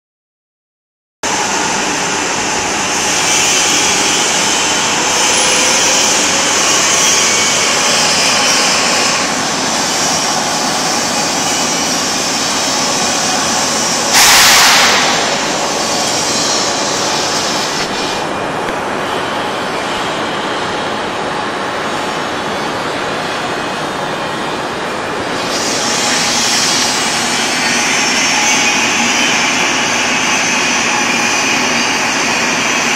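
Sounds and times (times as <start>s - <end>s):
boring mill hissing and humming: 1.3s - 32.9s.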